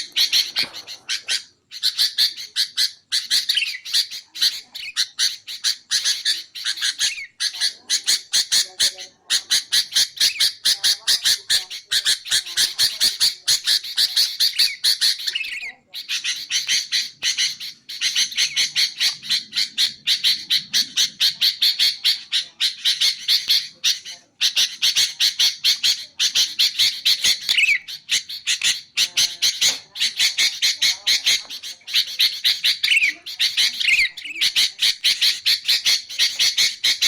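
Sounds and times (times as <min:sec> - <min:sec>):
bulbul chattering calls: 0:00.0 - 0:37.0.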